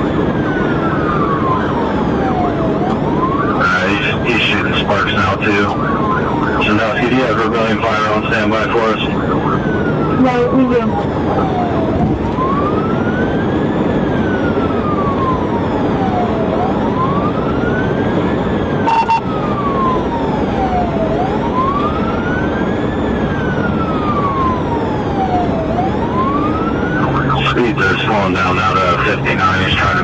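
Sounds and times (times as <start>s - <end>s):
police siren wailing: 0.0s - 30.0s
road and engine noise: 0.0s - 30.0s.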